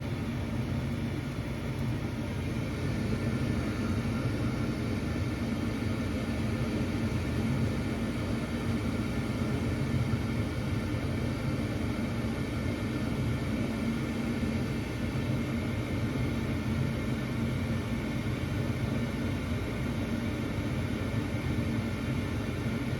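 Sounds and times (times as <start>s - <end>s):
gas furnace running: 0.0s - 22.9s.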